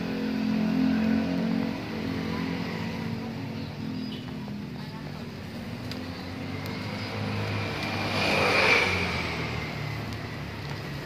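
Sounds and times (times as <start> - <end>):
motor vehicle passing by: 0.0 - 11.0.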